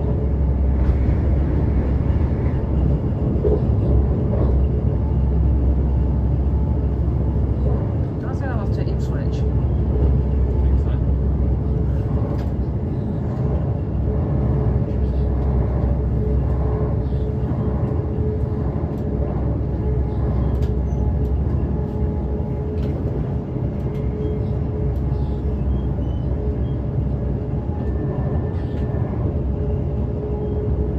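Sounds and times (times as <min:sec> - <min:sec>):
train carriage rumbling on track: 0:00.0 - 0:30.9.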